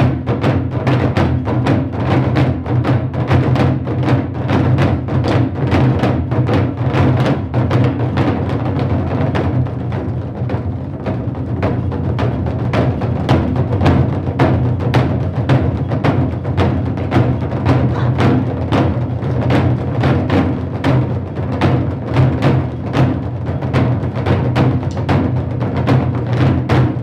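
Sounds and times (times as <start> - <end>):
barrel drums struck in unison: 0.0 - 27.0.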